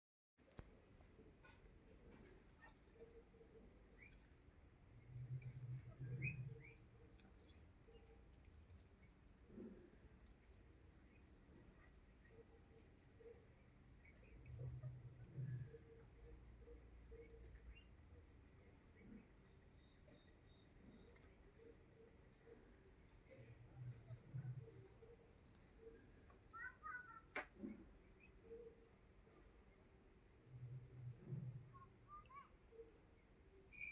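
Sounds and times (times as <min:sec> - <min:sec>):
crickets trilling: 0:00.4 - 0:33.9.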